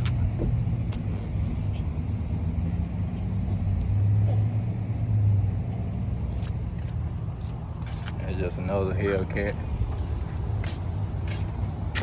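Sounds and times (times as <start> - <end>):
car moving slowly: 0.0 - 12.0.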